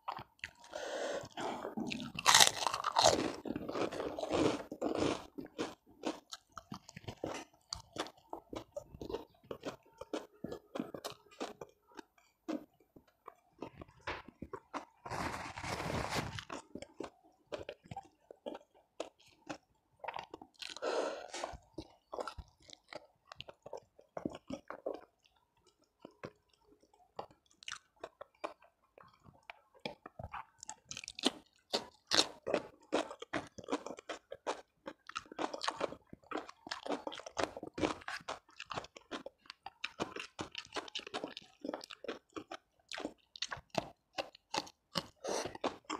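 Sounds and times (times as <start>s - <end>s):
person chewing and crunching food: 0.0s - 45.9s.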